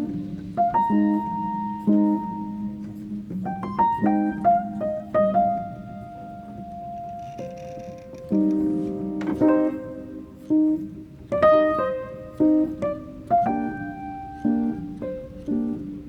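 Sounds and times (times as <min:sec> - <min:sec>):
piano chords and notes: 0:00.0 - 0:16.0.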